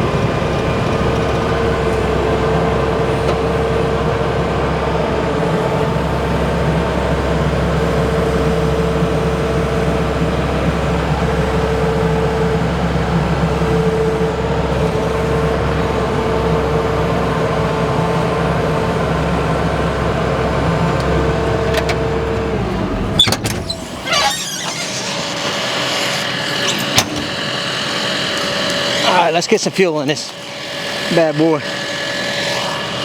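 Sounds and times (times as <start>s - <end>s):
large engine running: 0.0s - 33.0s.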